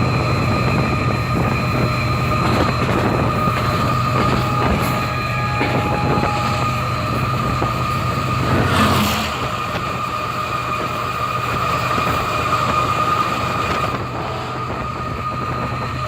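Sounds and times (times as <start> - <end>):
steady high whine: 0.0 - 16.0
train engine hum: 0.0 - 16.0.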